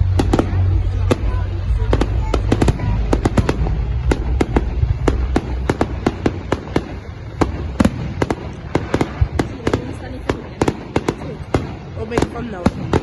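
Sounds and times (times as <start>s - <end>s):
fireworks bangs and crackles: 0.0s - 13.0s
low rumble: 0.0s - 13.0s.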